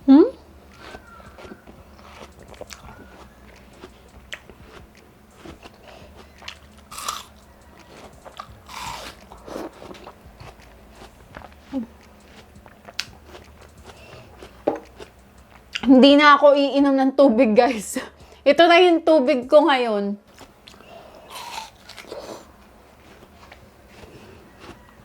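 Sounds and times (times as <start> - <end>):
person chewing watermelon: 0.4 - 15.9, 20.3 - 25.0.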